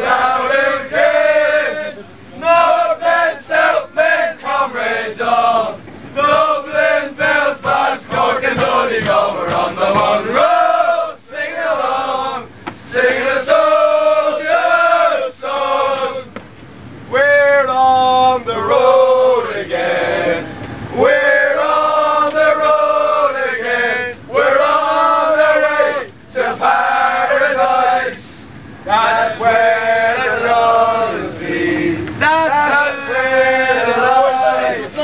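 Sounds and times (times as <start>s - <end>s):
crowd chanting: 0.0s - 16.3s, 17.4s - 28.2s, 28.9s - 35.0s.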